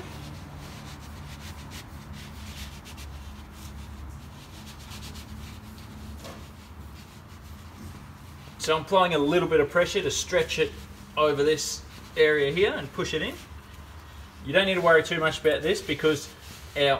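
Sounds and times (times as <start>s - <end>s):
hands scuffing carpet fabric: 0.0s - 16.9s.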